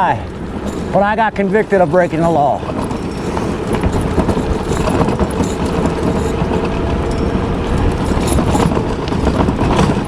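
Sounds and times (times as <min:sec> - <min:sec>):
passing vehicles engine and road noise: 0:00.0 - 0:10.0.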